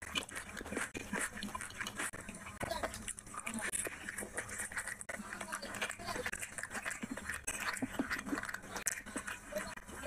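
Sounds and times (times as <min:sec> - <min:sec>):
person chewing and lip-smacking: 0:00.0 - 0:10.0.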